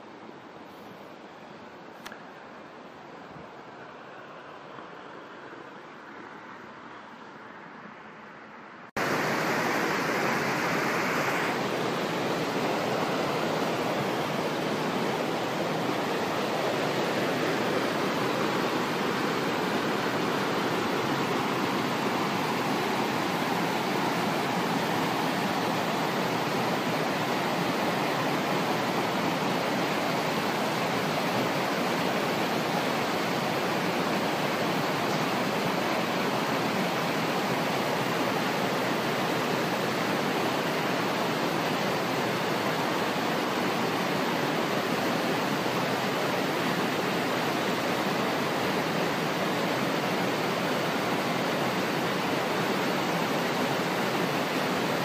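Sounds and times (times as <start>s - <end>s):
waterfall rushing over rocks: 9.0s - 55.0s.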